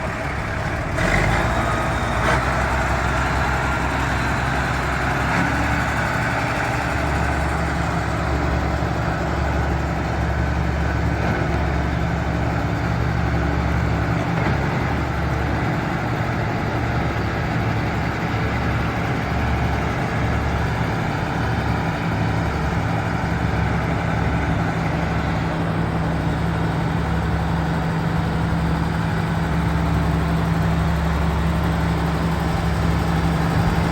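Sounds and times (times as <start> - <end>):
tractor diesel engine idling: 0.0 - 33.9.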